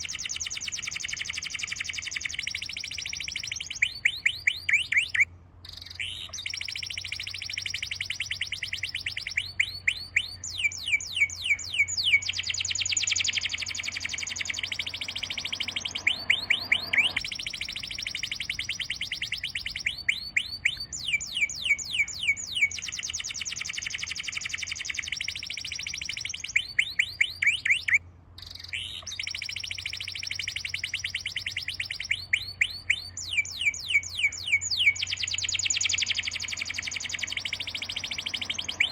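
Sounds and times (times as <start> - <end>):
songbird trilling: 0.0 - 38.9.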